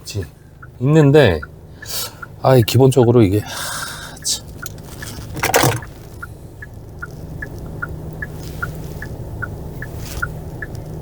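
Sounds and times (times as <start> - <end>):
car engine idling: 0.0 - 11.0
turn signal ticking: 0.0 - 11.0.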